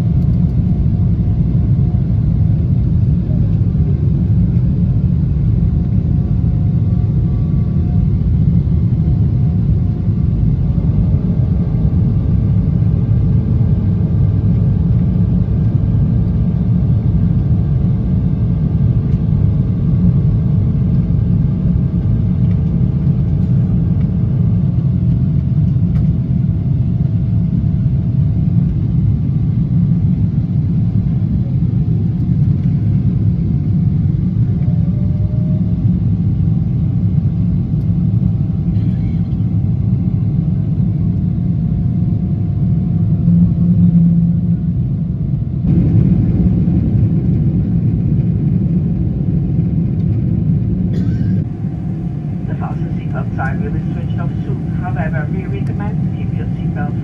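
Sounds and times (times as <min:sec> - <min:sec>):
jet engines at climb power: 0:00.0 - 0:57.0.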